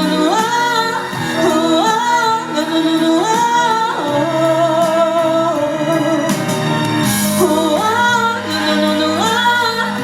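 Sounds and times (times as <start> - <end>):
woman singing wordless: 0.0 - 6.6, 7.4 - 10.0
music: 0.0 - 10.0.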